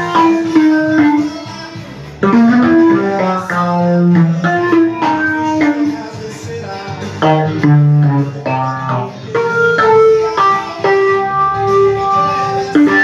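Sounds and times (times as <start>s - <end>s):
keyboard melody of held notes: 0.0s - 13.0s
low bass line: 0.0s - 13.0s.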